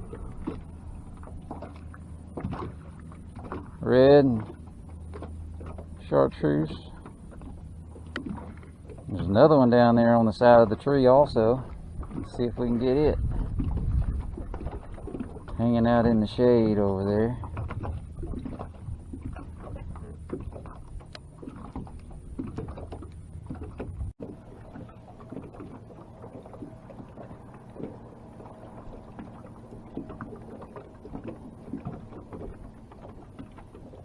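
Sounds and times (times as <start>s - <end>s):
water lapping at hull: 0.0s - 34.0s.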